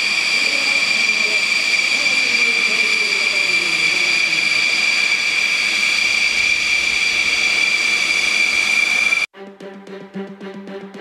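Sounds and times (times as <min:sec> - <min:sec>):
high-pitched whine: 0:00.0 - 0:09.3
microlight engine and propeller: 0:00.0 - 0:09.3.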